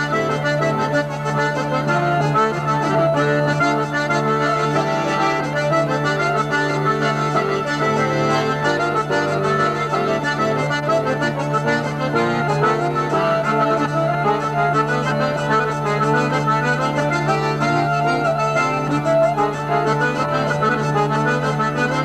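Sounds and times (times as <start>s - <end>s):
bagpipes: 0.0s - 22.0s
button accordion: 0.0s - 22.0s
hurdy-gurdy: 0.0s - 22.0s.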